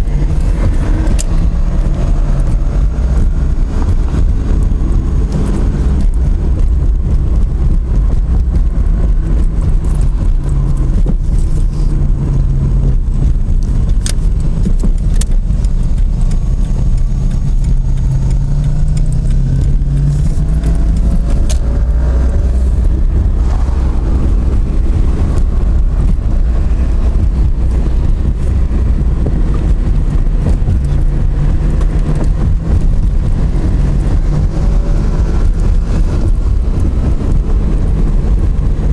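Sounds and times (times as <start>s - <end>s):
car engine rumble: 0.0s - 38.9s
road noise: 0.0s - 38.9s.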